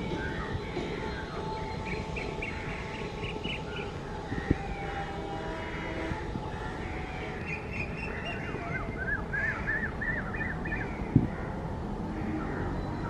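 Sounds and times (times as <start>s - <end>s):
birds chirping: 0.0s - 13.0s
distant train approaching: 0.0s - 13.0s.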